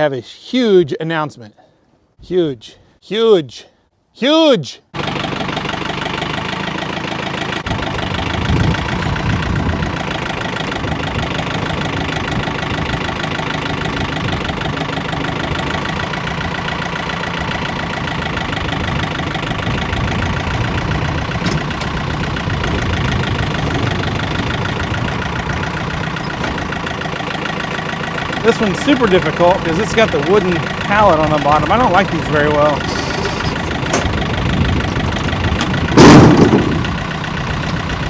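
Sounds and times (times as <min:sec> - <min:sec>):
machine engine running: 0:05.0 - 0:38.0.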